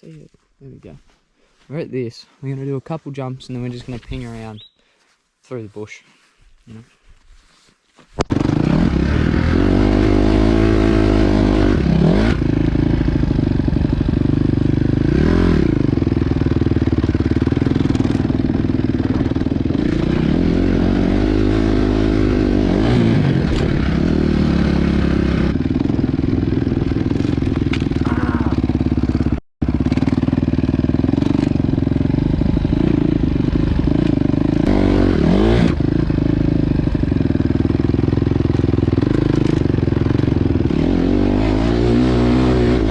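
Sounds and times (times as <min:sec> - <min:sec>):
dirt bike engine revving: 0:08.2 - 0:42.9.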